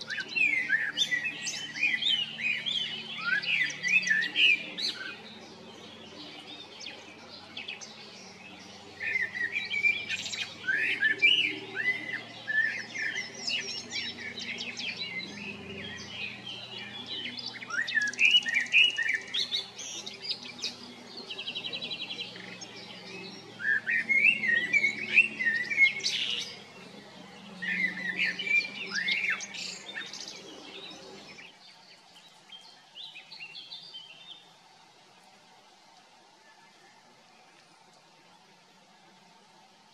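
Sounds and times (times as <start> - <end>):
blackbird singing: 0.0 - 34.5.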